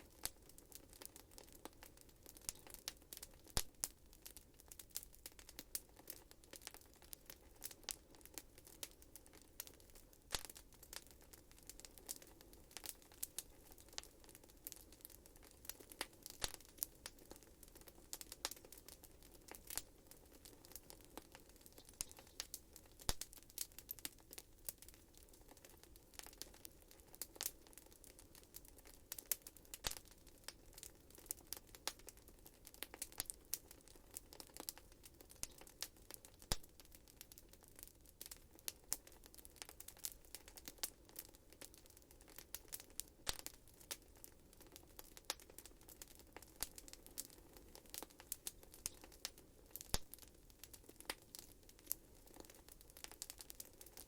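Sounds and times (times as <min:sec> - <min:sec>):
wood fire popping and snapping: 0:00.0 - 0:54.0.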